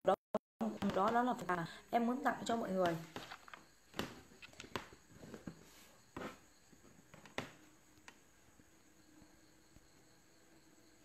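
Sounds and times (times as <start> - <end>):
faint steady hum: 0.6 - 11.0.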